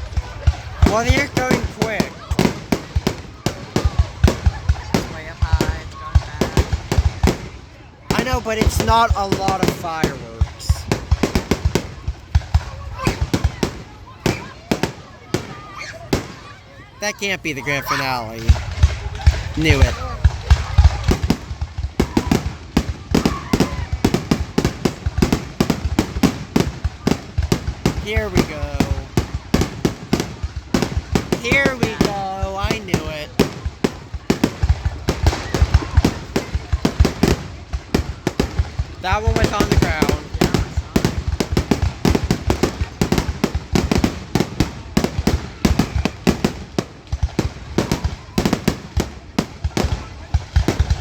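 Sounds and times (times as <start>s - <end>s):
fireworks exploding: 0.0s - 51.0s.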